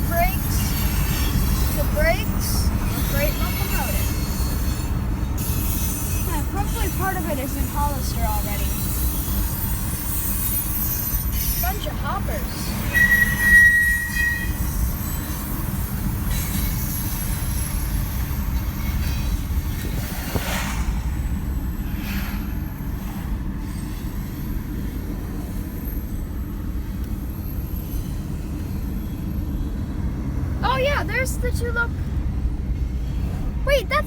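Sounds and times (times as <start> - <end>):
high-pitched wheel squeal: 0.0 - 20.4, 21.0 - 30.7
freight train rumbling past: 0.0 - 34.0.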